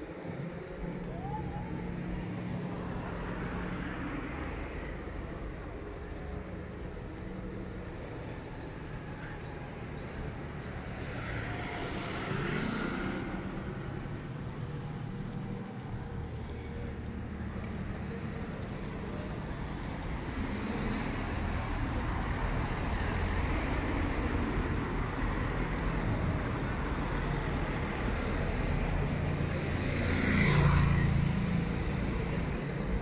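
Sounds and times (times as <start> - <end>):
cars driving by: 0.0 - 33.0.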